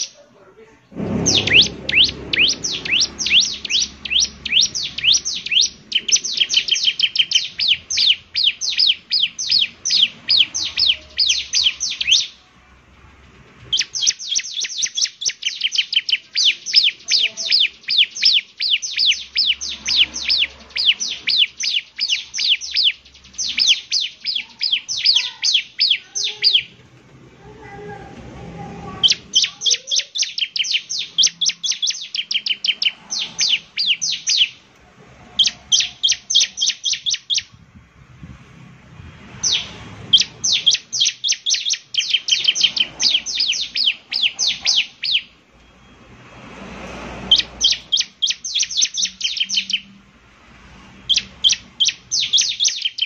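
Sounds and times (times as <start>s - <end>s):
bird singing high chirping notes: 0.0s - 0.2s, 1.0s - 12.5s, 13.7s - 26.8s, 29.0s - 34.7s, 35.4s - 37.6s, 39.2s - 46.2s, 47.2s - 50.0s, 50.8s - 53.0s.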